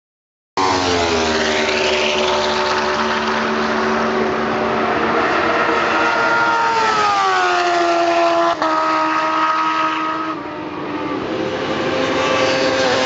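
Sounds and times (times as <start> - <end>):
motorcycle engine at high revs: 0.6 - 10.4, 11.3 - 13.0.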